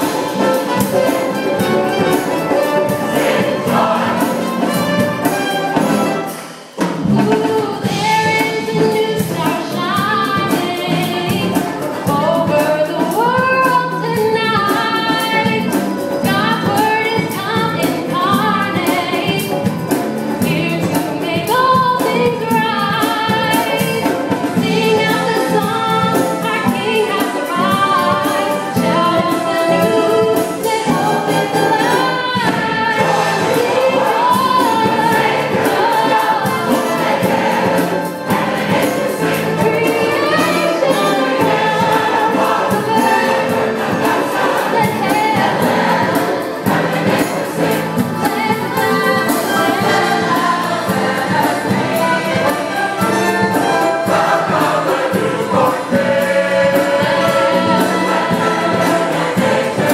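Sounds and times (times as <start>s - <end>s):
choir singing gospel music: 0.0s - 59.9s
instrumental accompaniment: 0.0s - 59.9s.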